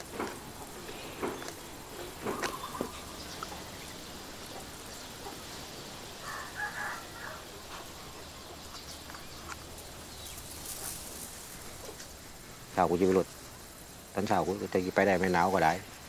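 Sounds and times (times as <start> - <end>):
bird calling: 0.0 - 15.9.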